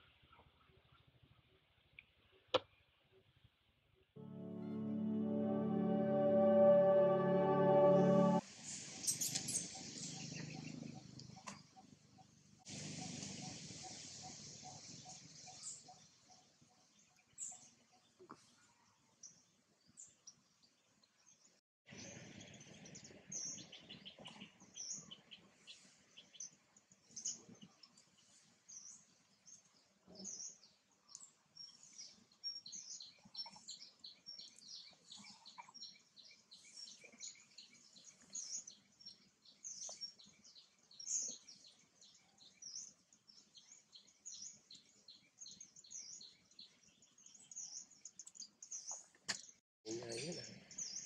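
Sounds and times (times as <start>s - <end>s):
faint bird chirping: 6.8s - 51.0s.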